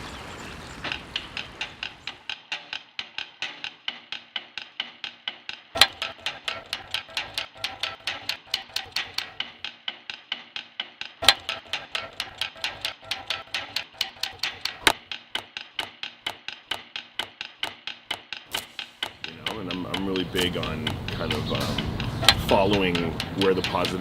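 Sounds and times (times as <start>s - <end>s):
loud knocks: 0.8s - 24.0s
rhythmic sharp clicks: 0.8s - 24.0s.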